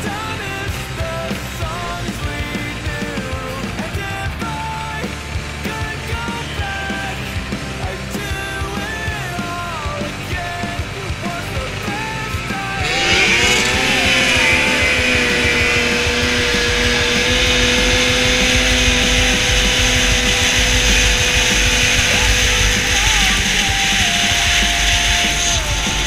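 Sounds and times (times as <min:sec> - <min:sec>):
snowmobile engine at full throttle: 0:00.0 - 0:26.0.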